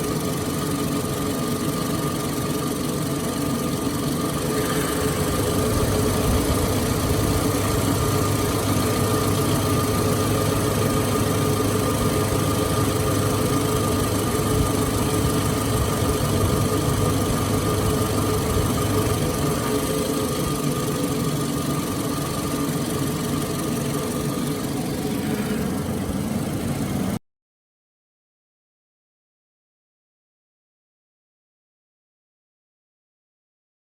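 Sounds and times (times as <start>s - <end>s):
car engine idling: 0.0s - 27.2s.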